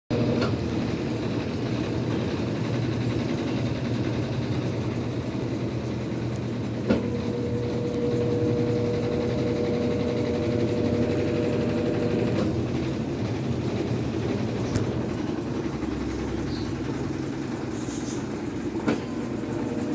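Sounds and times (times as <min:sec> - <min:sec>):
steady mechanical whine: 0:00.1 - 0:19.9
washing machine humming: 0:00.1 - 0:19.9.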